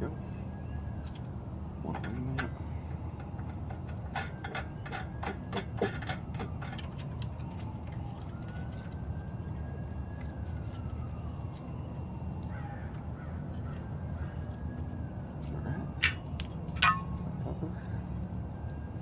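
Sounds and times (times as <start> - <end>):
faint distant siren wailing: 0.0 - 19.0.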